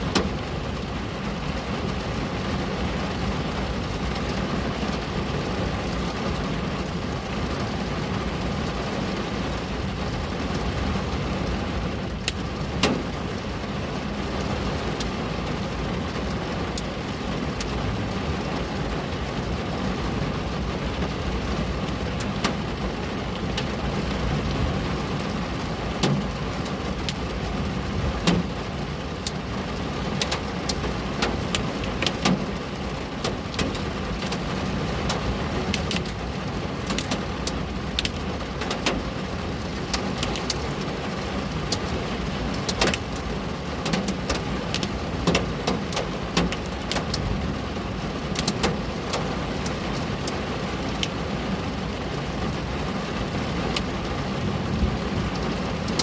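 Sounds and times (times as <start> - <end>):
rain hissing: 0.0 - 56.0
raindrops ticking on glass: 6.9 - 19.2, 20.4 - 56.0.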